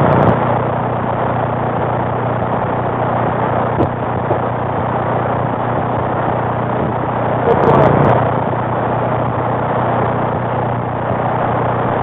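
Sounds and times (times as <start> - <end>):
low hum: 0.0 - 12.0
radio static hiss: 0.0 - 12.0.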